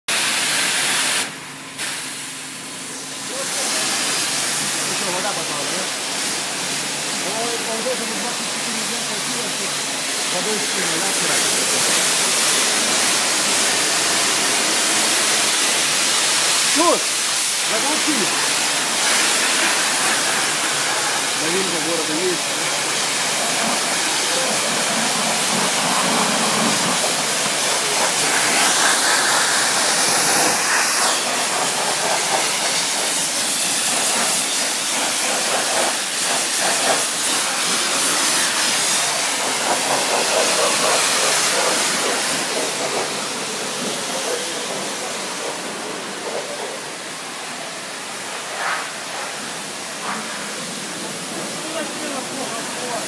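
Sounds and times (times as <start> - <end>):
high-pressure water spray hissing: 0.1 - 53.0.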